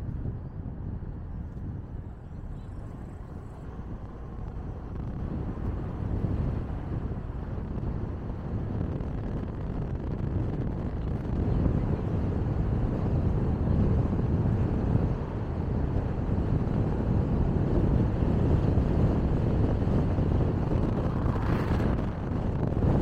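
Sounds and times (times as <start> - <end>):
car road and wind noise: 0.0 - 23.0.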